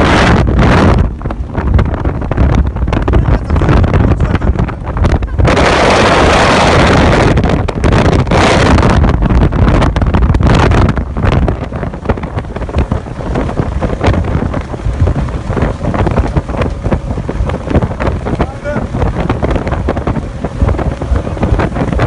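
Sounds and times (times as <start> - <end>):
boat engine: 0.0 - 22.0
rushing water: 0.0 - 22.0
wind buffeting microphone: 0.0 - 22.0.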